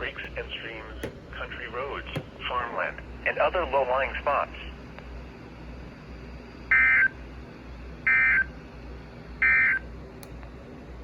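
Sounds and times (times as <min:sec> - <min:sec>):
steady radio hiss: 0:00.0 - 0:09.0.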